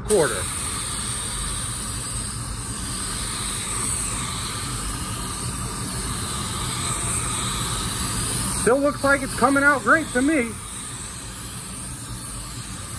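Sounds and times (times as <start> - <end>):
air spray gun hissing: 0.0 - 12.9.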